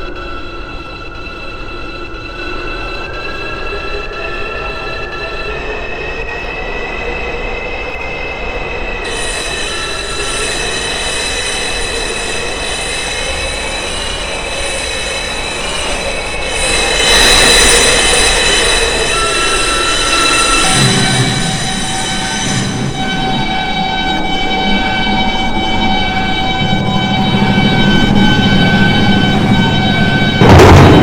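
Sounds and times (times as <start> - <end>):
subway train wheels squealing: 0.0 - 31.0
train rumble: 0.0 - 31.0.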